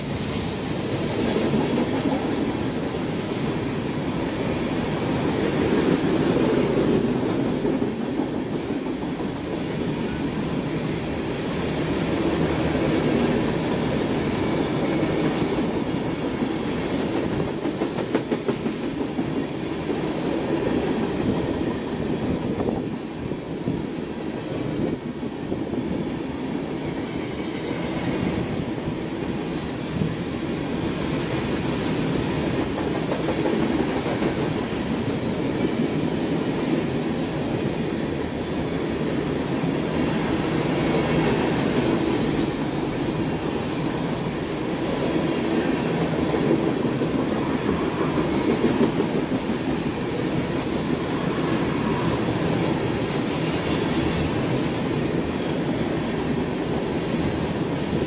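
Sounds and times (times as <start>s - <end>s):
train wheels rumbling and clattering: 0.0s - 58.0s.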